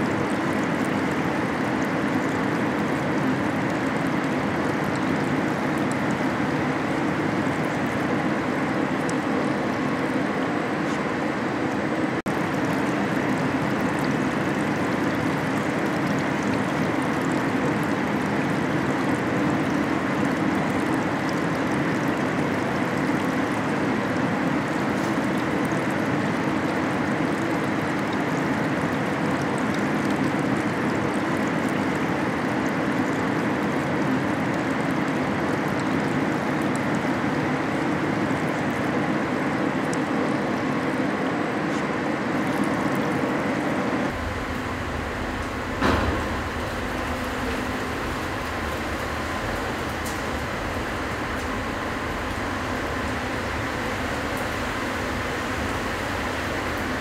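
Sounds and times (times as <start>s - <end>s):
liquid rushing and trickling: 0.0s - 57.0s
low machine hum: 0.0s - 57.0s.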